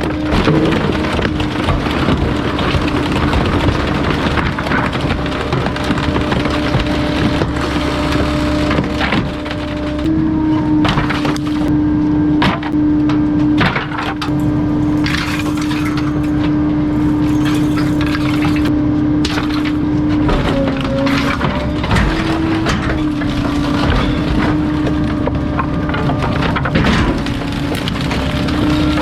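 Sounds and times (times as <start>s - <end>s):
things cracking under compactor: 0.0s - 11.8s, 12.4s - 29.0s
hydraulic hum: 0.0s - 29.0s.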